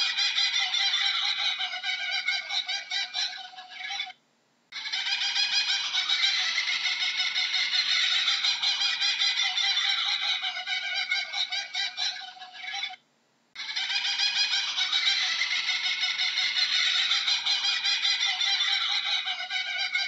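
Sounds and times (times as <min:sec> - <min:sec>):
kookaburras laughing call: 0:00.0 - 0:13.0, 0:13.6 - 0:20.0.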